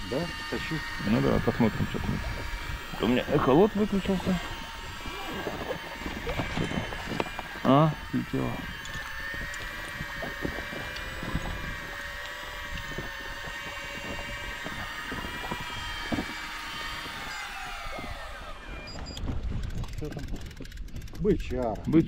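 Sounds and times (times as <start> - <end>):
fishing reel motor whining: 0.0 - 22.0.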